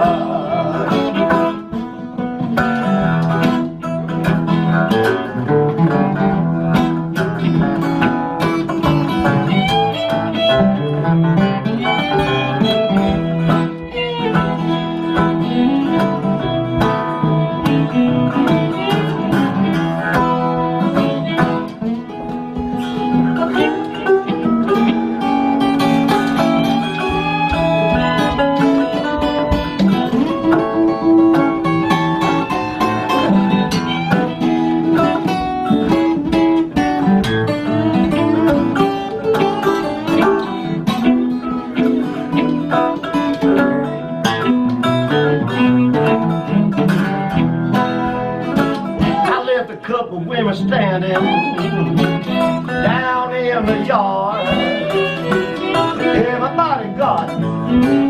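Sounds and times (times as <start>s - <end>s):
bowed fiddle: 0.0s - 49.4s, 50.8s - 58.0s
acoustic guitar: 0.0s - 58.0s
resonator guitar: 0.0s - 58.0s.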